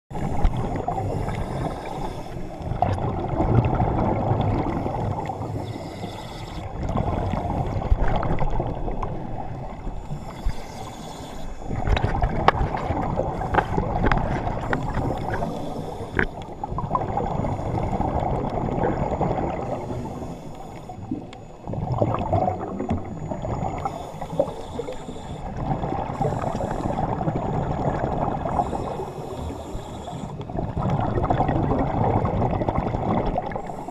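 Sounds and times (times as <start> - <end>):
underwater rushing and bubbling: 0.1 - 33.9.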